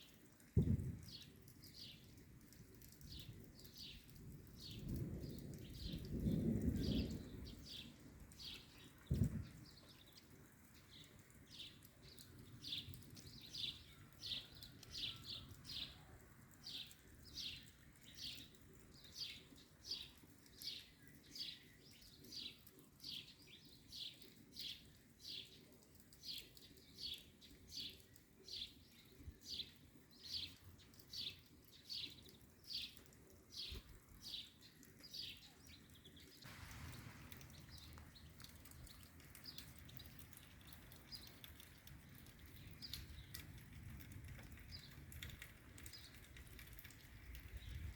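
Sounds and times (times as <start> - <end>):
faint steady hiss: 0.0 - 47.9.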